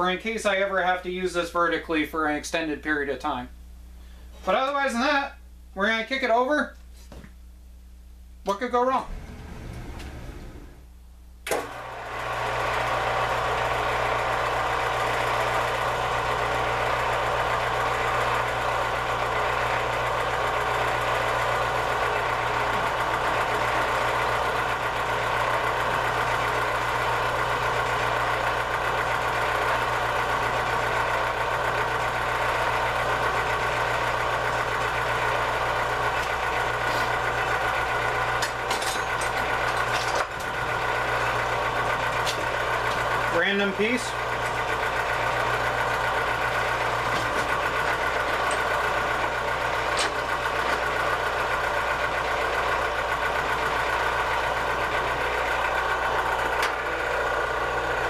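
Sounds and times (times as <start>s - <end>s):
band saw running: 9.1s - 10.8s, 11.5s - 58.0s.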